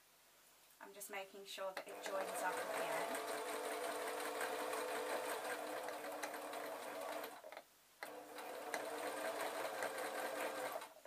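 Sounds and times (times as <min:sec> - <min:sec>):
sewing machine stitching: 0:01.8 - 0:11.0.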